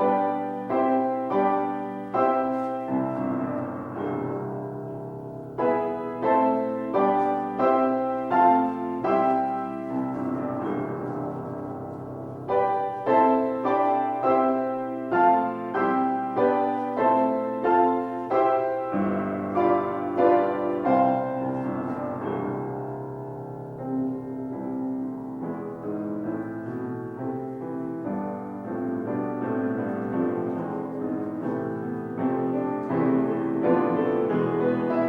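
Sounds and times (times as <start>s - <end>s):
piano chords: 0.0s - 35.0s.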